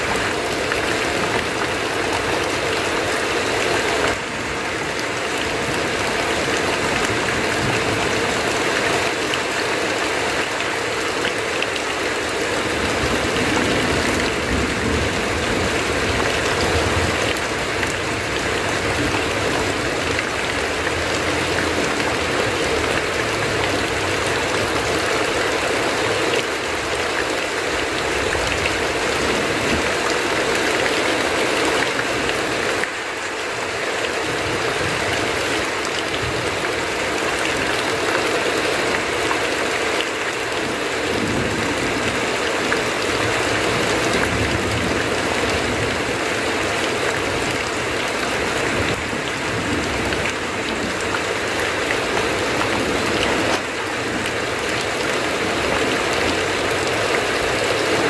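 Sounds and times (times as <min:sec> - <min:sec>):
heavy rain on a tin roof: 0:00.0 - 0:58.0
water pouring off roof: 0:00.0 - 0:58.0.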